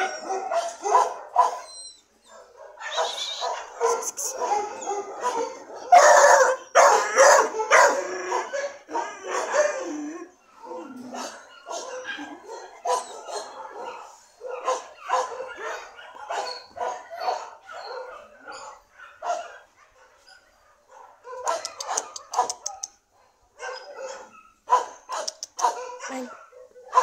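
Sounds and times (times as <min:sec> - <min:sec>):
dogs barking and yipping: 0:00.0 - 0:27.0.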